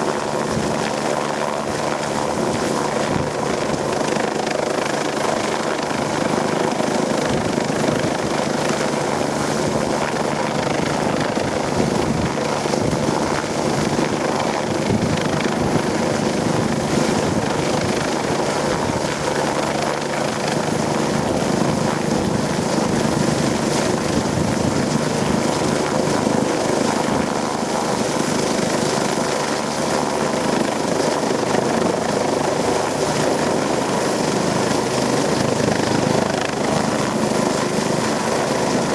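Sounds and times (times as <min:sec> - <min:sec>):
helicopter rotor and turbine: 0:00.0 - 0:38.9
strong rotor downwash wind: 0:00.0 - 0:38.9.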